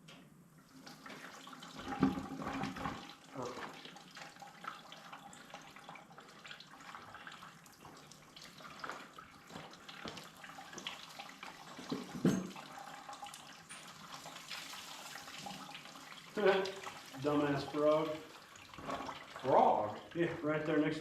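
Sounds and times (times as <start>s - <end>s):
coolant splashing as it drains: 0.5s - 21.0s.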